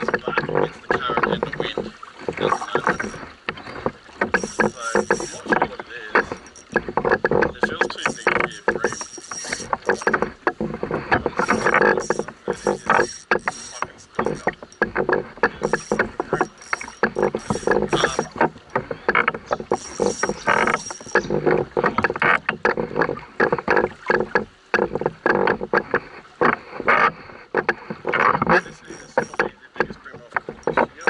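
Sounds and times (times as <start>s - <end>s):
fishing gear knocking against canoe: 0.0s - 31.0s.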